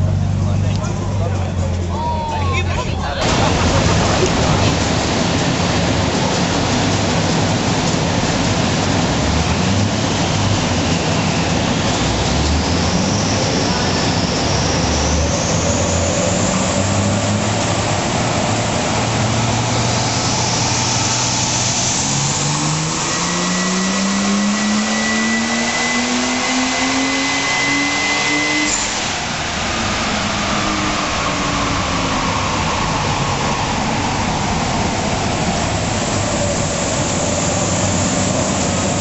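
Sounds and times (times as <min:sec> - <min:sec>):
car engine revving: 0:00.0 - 0:02.2, 0:03.0 - 0:39.0
dyno rollers spinning down: 0:00.0 - 0:39.0
high whine: 0:00.0 - 0:39.0.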